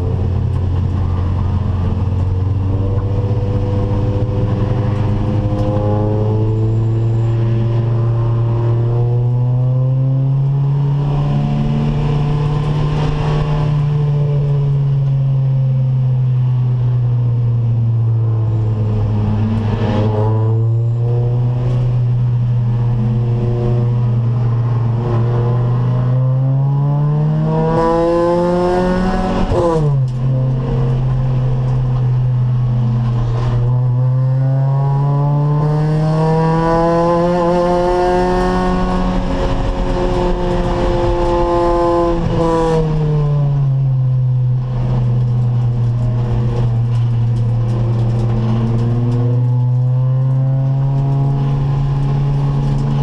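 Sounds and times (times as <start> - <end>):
race car engine revving: 0.0 - 15.0, 17.5 - 53.0.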